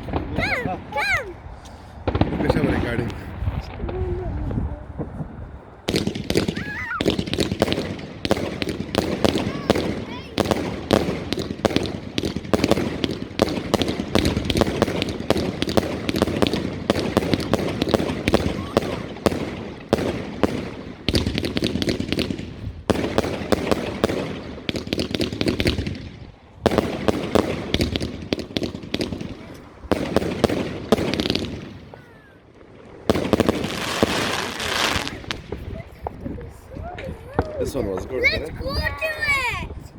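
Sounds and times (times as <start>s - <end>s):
fireworks bursting: 0.0s - 39.8s.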